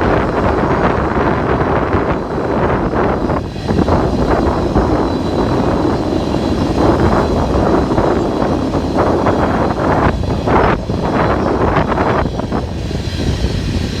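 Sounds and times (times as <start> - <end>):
freight train rumbling: 0.0 - 14.0
wind buffeting microphone: 0.0 - 14.0.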